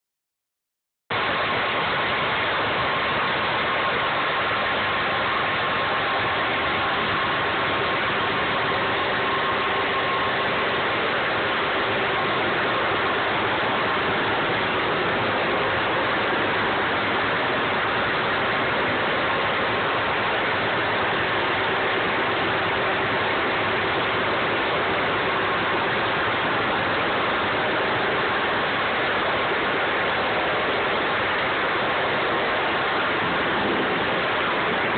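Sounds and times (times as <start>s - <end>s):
pump engine hum: 1.1s - 34.9s.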